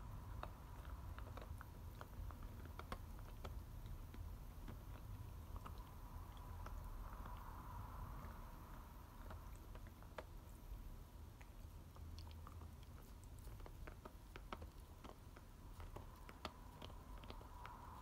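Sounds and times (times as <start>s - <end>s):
dog gnawing a bone: 0.0s - 18.0s.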